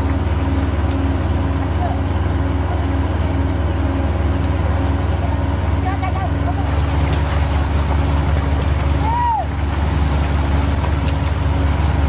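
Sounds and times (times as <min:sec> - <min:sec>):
boat engine running: 0:00.0 - 0:12.0
fish splashing in water: 0:00.0 - 0:12.0.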